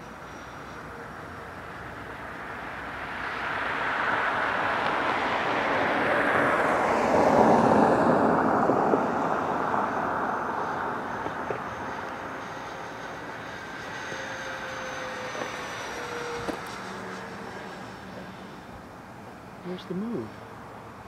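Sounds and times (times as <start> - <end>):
model jet flying past: 0.0 - 21.0.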